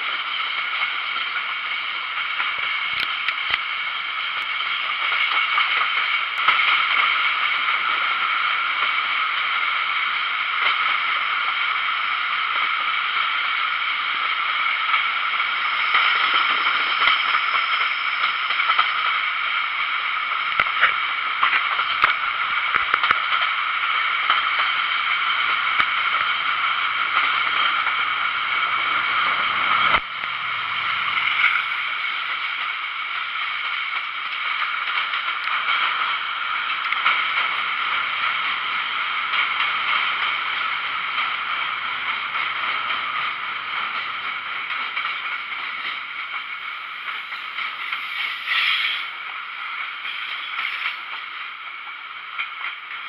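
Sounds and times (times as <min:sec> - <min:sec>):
train rolling on track: 0:00.0 - 0:53.0.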